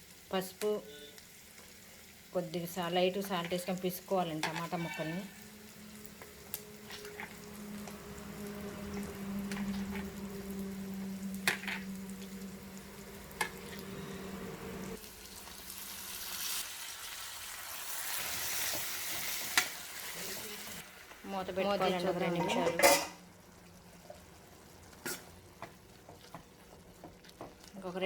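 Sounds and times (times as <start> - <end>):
tomatoes sizzling in oil: 0.0 - 28.0.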